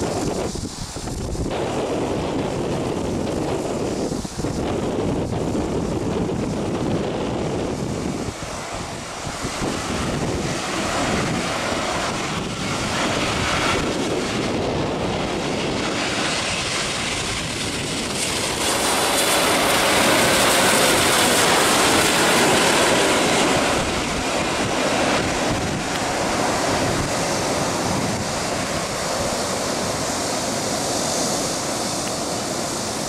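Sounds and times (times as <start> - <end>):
jet engines rushing overhead: 0.0 - 33.0
wind buffeting microphone: 0.0 - 33.0.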